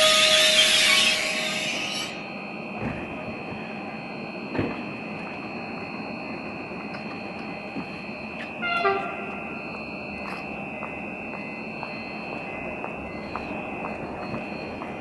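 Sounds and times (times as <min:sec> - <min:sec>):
high whine of train equipment: 0:00.0 - 0:15.0.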